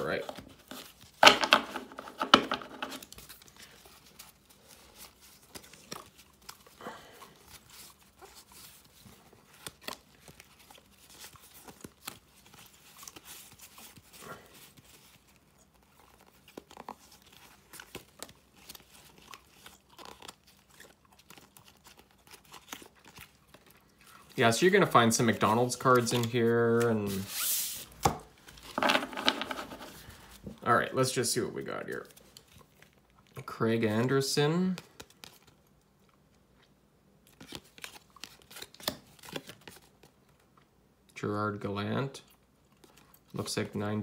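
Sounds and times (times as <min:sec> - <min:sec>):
trading cards rustling: 0:00.0 - 0:35.7, 0:37.3 - 0:40.2.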